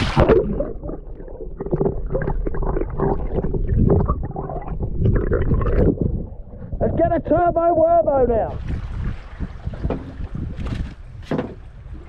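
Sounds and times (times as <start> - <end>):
muffled underwater sloshing: 0.0 - 12.0
underwater knocks and splashes: 0.0 - 12.0.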